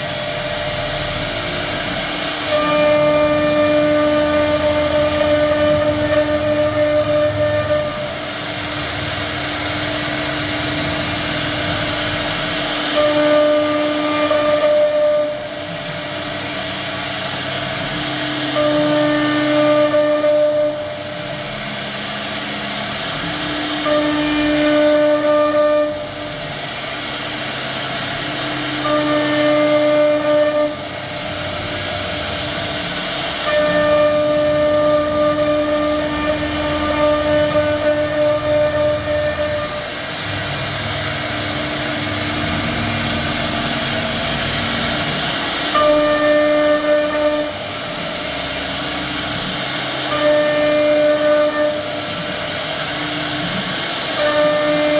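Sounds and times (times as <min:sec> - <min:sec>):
router spindle whining: 0:00.0 - 0:54.9.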